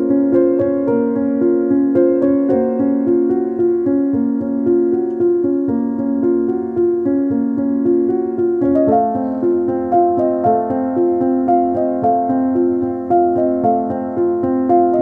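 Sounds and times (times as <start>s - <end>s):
gentle keyboard melody: 0.0s - 15.0s.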